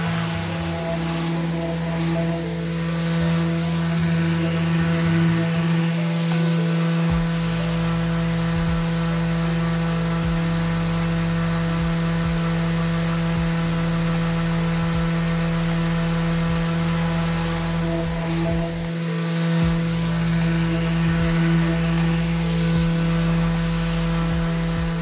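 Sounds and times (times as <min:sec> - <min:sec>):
power sander sanding wood: 0:00.0 - 0:25.0.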